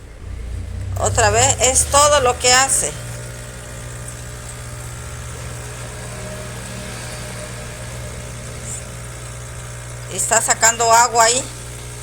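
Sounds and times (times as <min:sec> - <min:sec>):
espresso machine pump humming: 0:00.0 - 0:12.0.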